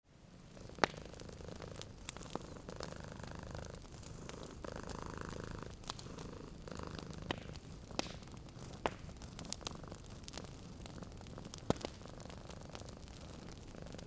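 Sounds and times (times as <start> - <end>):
fireplace crackling and popping: 0.1 - 14.0
cat purring: 0.3 - 14.0.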